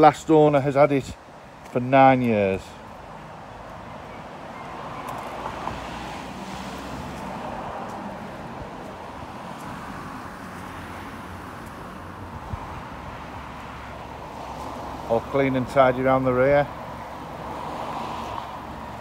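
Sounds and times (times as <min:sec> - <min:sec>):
distant road traffic hum: 0:00.0 - 0:19.0.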